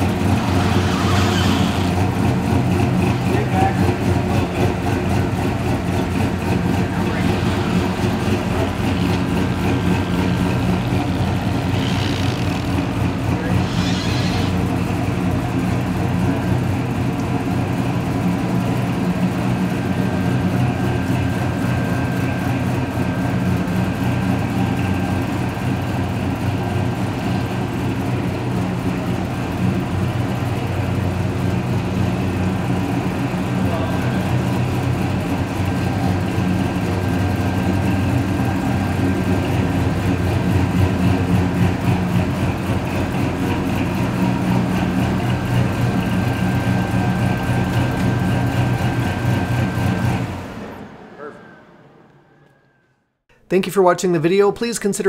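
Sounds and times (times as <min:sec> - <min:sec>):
car engine idling: 0:00.0 - 0:52.7.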